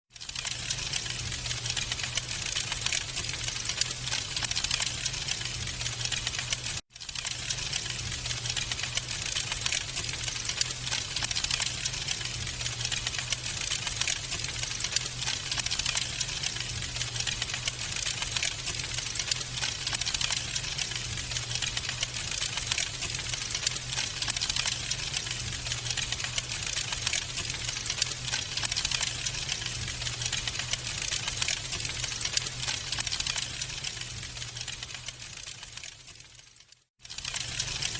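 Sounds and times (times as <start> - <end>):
wood fire crackling: 0.2 - 37.9.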